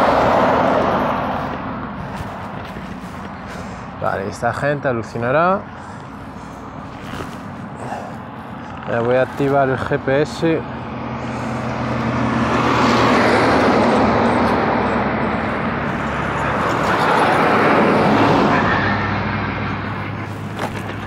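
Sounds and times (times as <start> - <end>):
highway traffic passing: 0.0 - 21.0.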